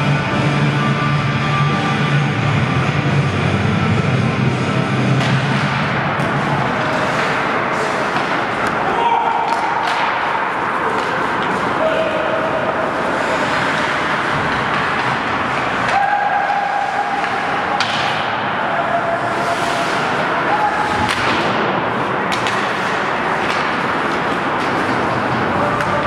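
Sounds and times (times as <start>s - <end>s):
skating and play on ice: 0.0s - 26.0s
distant voices: 3.0s - 26.0s.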